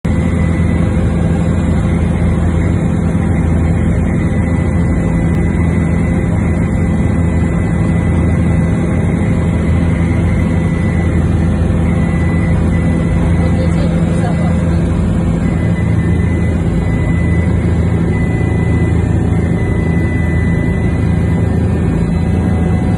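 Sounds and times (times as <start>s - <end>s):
constant whine: 0.0s - 22.9s
helicopter engine and rotor drone: 0.0s - 22.9s.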